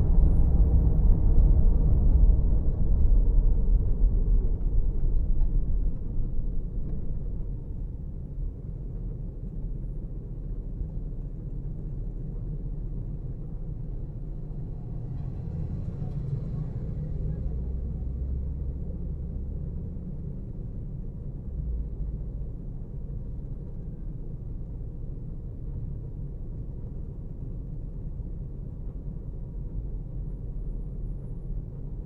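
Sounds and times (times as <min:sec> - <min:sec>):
road and engine rumble inside car: 0:00.0 - 0:32.0.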